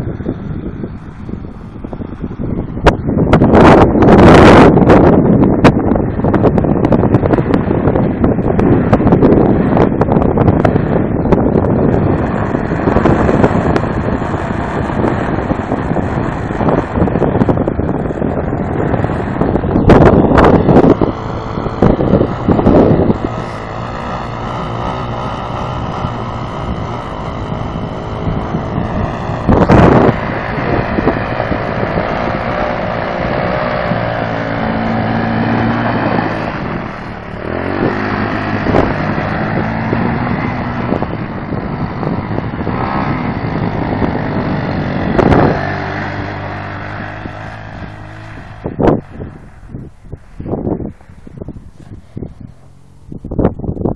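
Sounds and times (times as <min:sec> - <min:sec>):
quad bike engine running: 0:00.0 - 0:53.9
wind buffeting microphone: 0:00.0 - 0:53.9.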